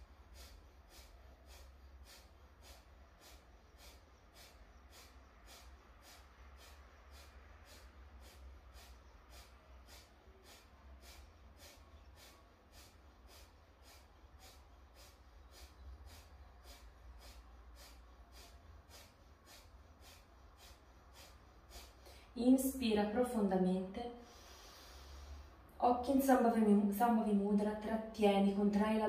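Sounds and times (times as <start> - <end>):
forced nasal exhalations: 0.0 - 22.3, 24.2 - 25.7
steady low hum: 0.0 - 29.0.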